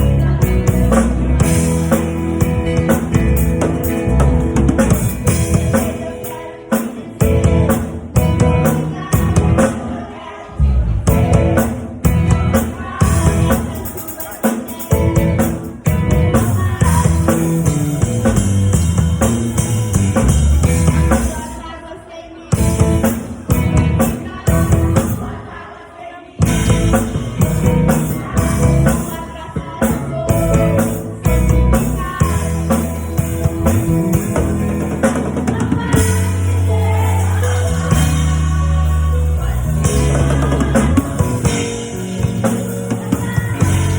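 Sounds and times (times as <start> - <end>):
band music with singing: 0.0 - 43.9.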